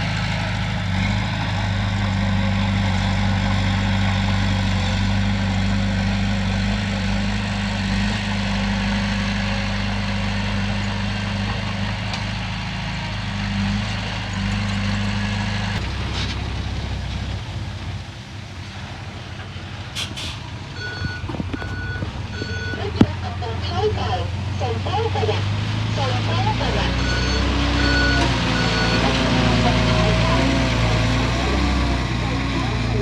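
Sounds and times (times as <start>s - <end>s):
diesel engine humming: 0.0s - 33.0s.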